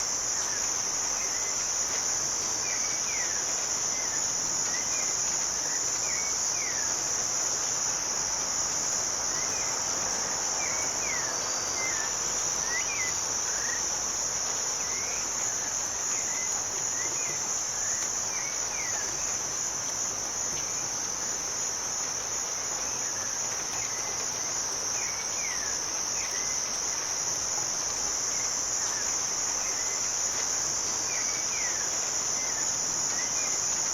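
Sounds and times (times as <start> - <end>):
high insect chorus: 0.0 - 33.9
rain hiss: 0.0 - 33.9.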